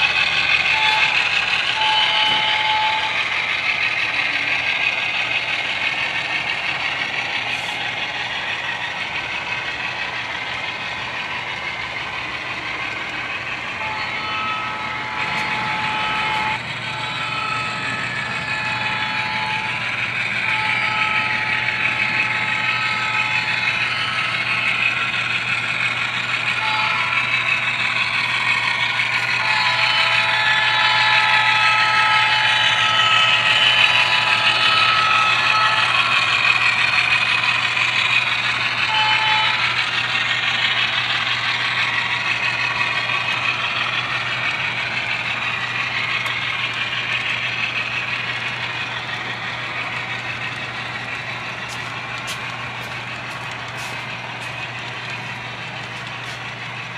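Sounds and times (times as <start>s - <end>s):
model train running on track: 0.0s - 56.9s.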